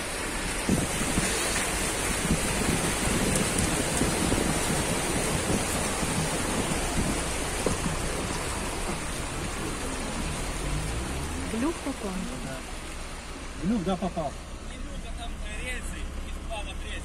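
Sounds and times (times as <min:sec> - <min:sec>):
water splashing around car wheels: 0:00.0 - 0:17.0.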